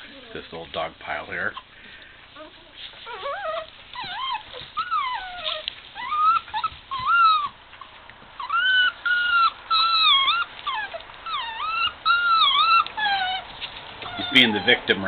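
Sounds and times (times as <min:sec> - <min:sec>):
puppies whining: 0:00.0 - 0:15.0.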